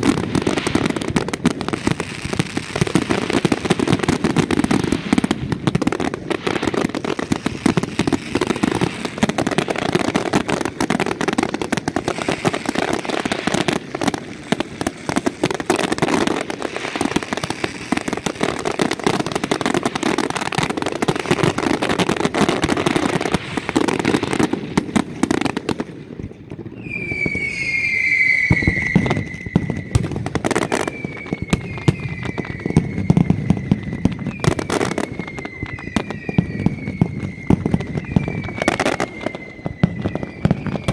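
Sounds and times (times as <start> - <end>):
firecrackers crackling and banging: 0.0 - 40.9
fireworks whistles falling in pitch: 0.0 - 40.9.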